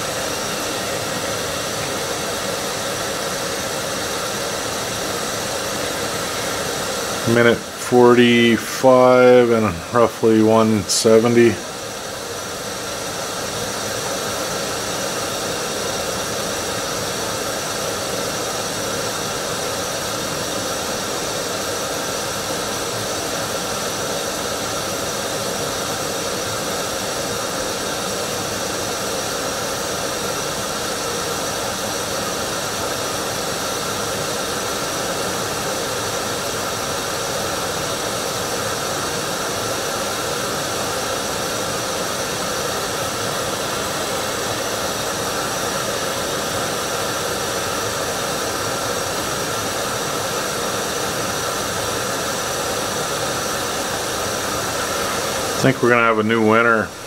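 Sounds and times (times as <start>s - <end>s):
gas stove flame hissing: 0.0s - 55.8s.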